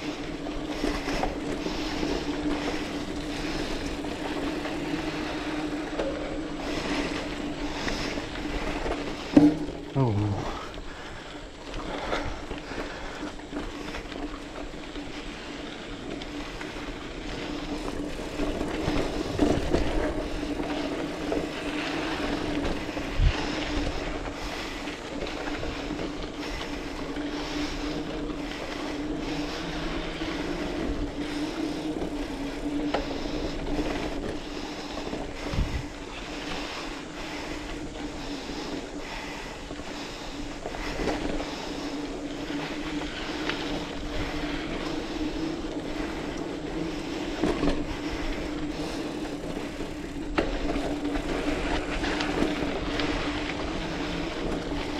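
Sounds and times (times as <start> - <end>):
bike rattling: 0.0 - 54.9
knobby tires humming on dirt: 0.0 - 54.9.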